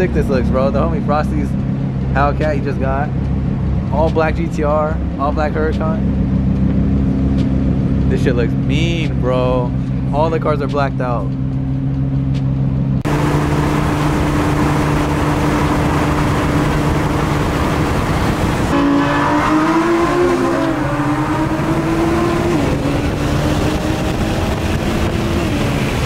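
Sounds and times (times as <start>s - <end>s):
car engines droning: 0.0s - 26.0s
engine and road noise inside car: 0.0s - 26.0s.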